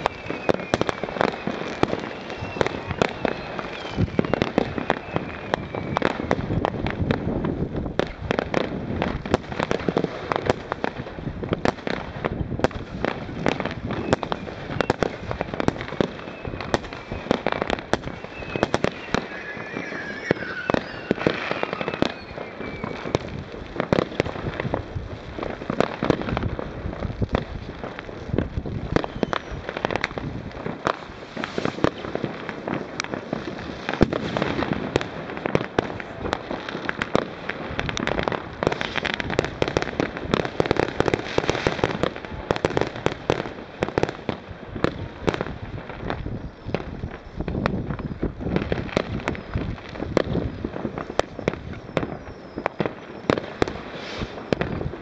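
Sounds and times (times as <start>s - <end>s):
firework whistles: 0.0s - 7.3s, 13.1s - 24.8s, 28.3s - 44.1s, 44.9s - 55.0s
firecrackers crackling and banging: 0.0s - 55.0s.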